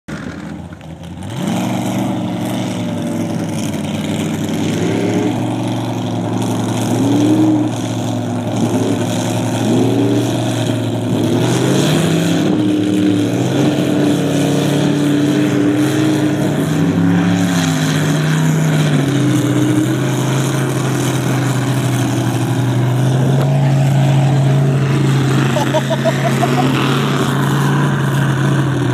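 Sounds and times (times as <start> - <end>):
truck engine revving: 0.1 - 28.9.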